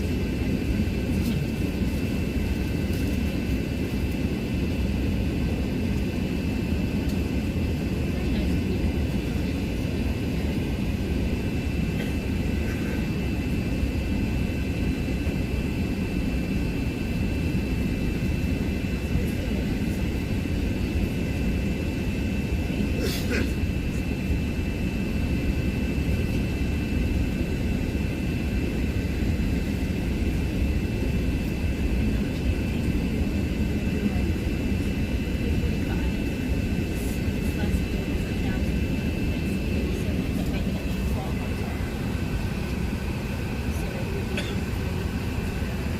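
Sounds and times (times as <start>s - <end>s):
aircraft engine and airflow rumble: 0.0s - 45.9s.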